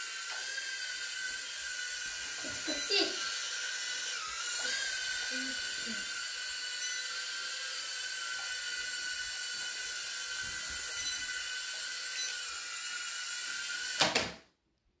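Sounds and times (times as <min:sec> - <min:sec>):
toy drone motors whining: 0:00.0 - 0:14.0.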